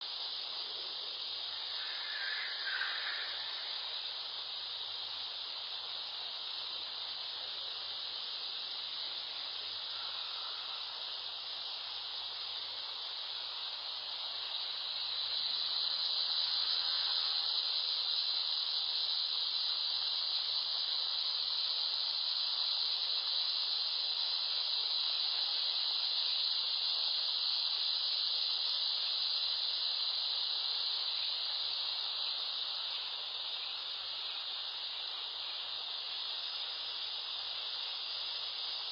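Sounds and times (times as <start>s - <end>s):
steady high-pitched hiss: 0.0s - 38.9s.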